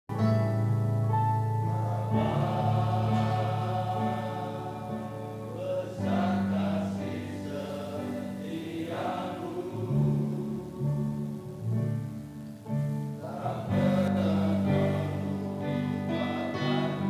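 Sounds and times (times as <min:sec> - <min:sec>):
low accompaniment chords: 0:00.1 - 0:17.0
men's choir singing gospel: 0:01.6 - 0:12.0, 0:13.1 - 0:17.0.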